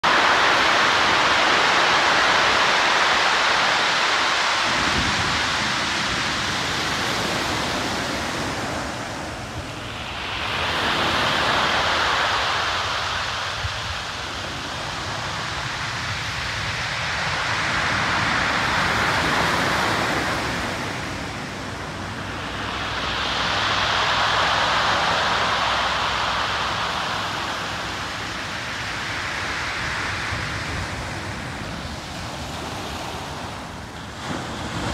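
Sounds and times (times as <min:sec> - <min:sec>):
surf washing on pebble beach: 0:00.0 - 0:34.9.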